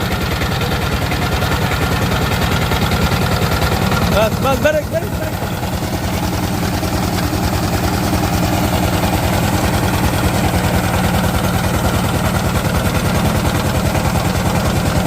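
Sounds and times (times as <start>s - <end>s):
diesel engine knocking: 0.0s - 15.0s.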